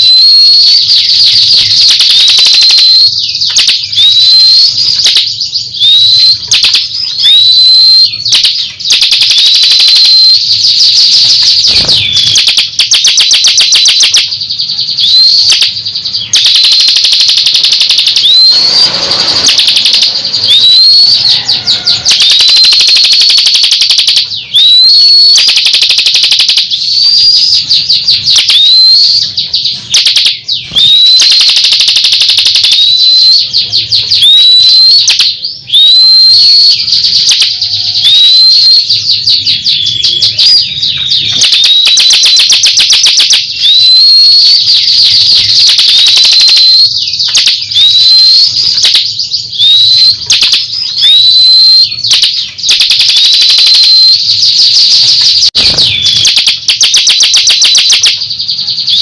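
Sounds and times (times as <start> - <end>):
songbird trilling and whistling: 0.0 - 59.0.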